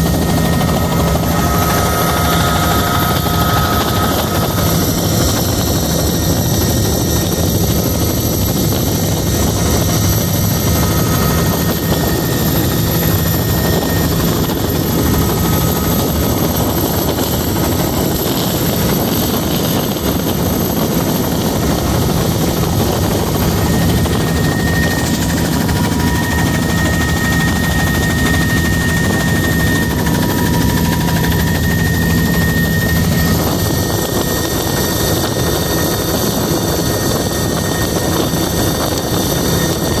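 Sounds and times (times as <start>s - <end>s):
helicopter cabin drone: 0.0s - 40.0s.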